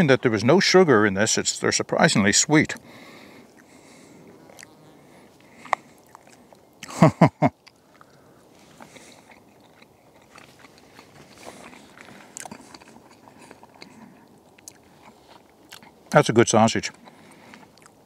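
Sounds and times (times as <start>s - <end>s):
man chewing food: 2.8s - 16.2s, 16.9s - 18.0s.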